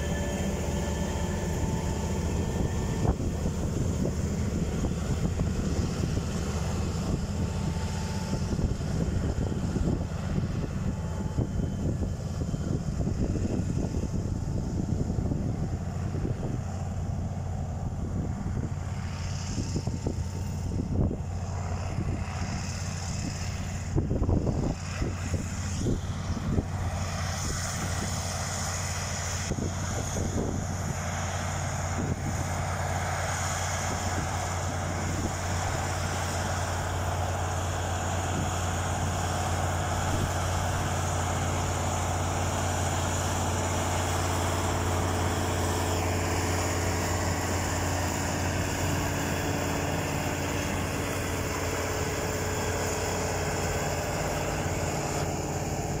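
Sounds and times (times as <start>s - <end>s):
tractor diesel engine hum: 0.0s - 56.0s.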